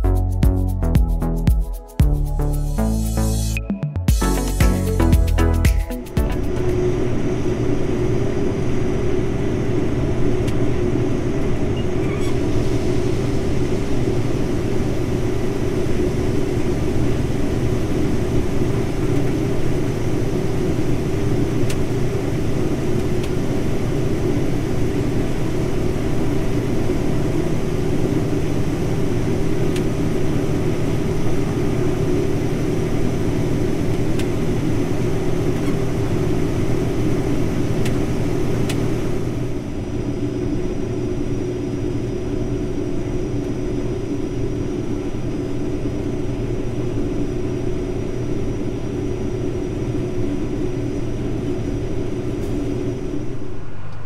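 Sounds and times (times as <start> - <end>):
combine harvester running: 4.3 - 43.4, 44.4 - 54.0.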